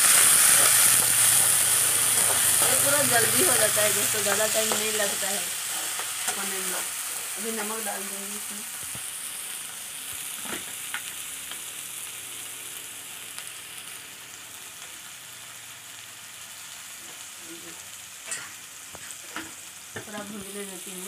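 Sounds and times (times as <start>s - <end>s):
leaves sizzling in hot oil: 0.0s - 21.0s.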